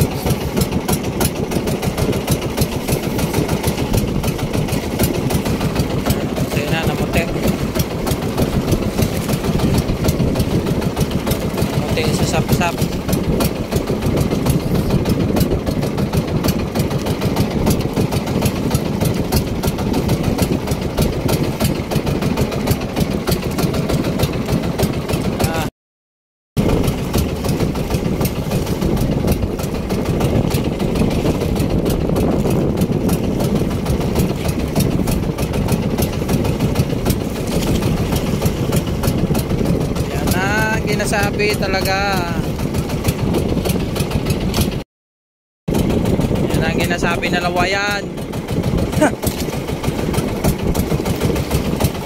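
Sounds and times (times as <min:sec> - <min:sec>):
boat engine running: 0:00.0 - 0:25.7, 0:26.6 - 0:44.8, 0:45.7 - 0:52.0.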